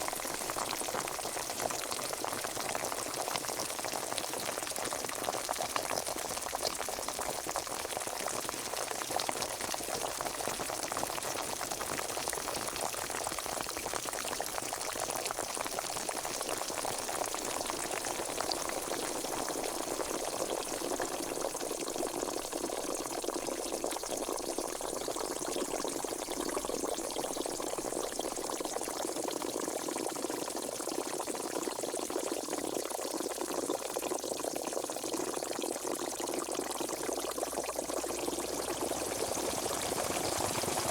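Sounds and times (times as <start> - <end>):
water boiling and bubbling: 0.0 - 40.9.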